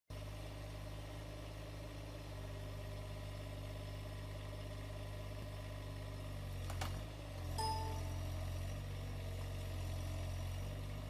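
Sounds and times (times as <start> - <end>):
diesel engine running steadily: 0.1 - 11.0.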